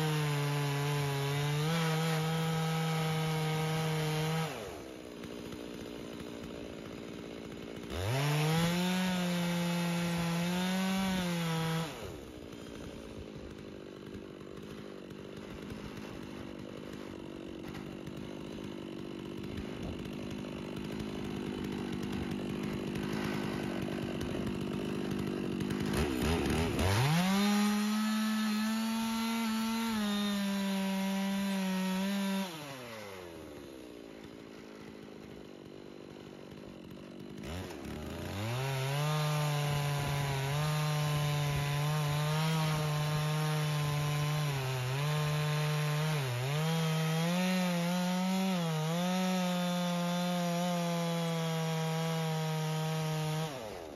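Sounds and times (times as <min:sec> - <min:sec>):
chainsaw engine revving: 0:00.0 - 0:53.9
chainsaw ripping through log: 0:00.0 - 0:53.9.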